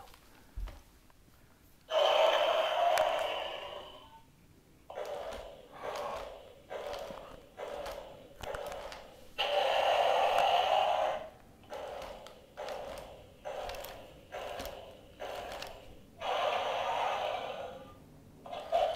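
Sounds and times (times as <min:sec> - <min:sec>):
heavy rhythmic breathing: 0:01.4 - 0:04.2, 0:04.9 - 0:18.9.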